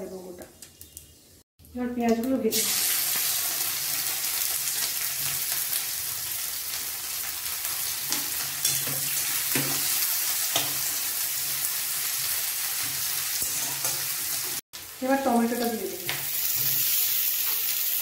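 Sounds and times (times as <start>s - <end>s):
onions sizzling in oil: 1.8s - 18.0s.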